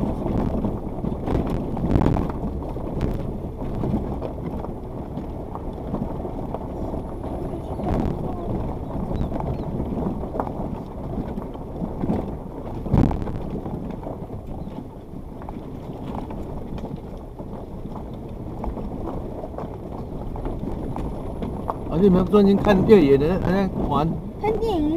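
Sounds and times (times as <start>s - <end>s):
vehicle body knocking over rocks: 0.0s - 24.0s
engine and tyres rumbling on stones: 0.0s - 24.9s.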